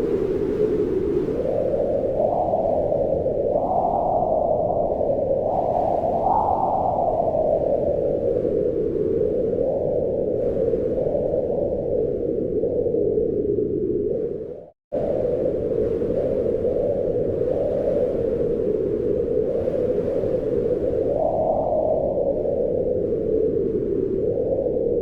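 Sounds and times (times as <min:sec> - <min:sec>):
wind blowing in gusts: 0:00.0 - 0:25.0.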